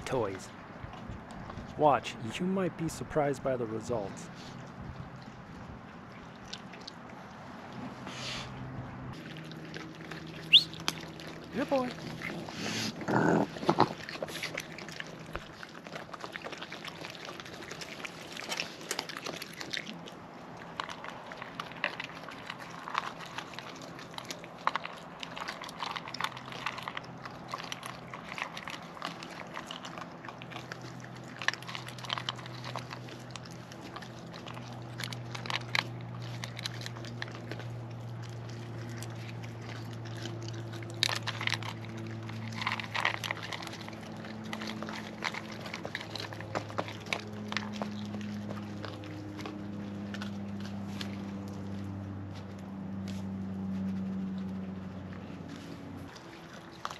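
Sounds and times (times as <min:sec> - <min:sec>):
raccoon chewing: 0:00.0 - 0:56.9.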